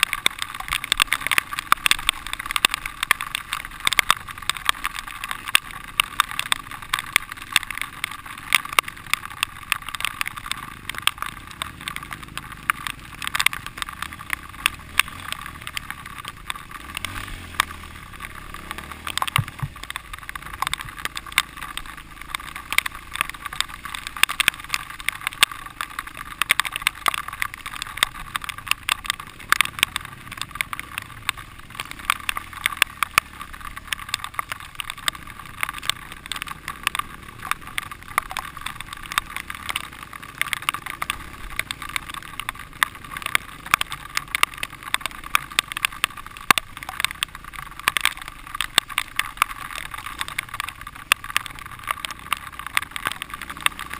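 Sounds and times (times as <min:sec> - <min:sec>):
muffled dirt bike engine: 0:00.0 - 0:53.9.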